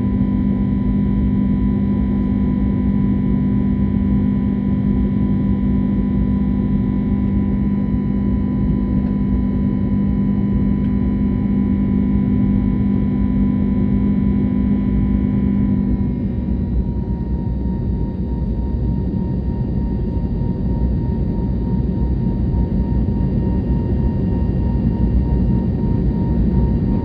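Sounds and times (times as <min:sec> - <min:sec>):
jet engine cabin drone: 0:00.0 - 0:27.0.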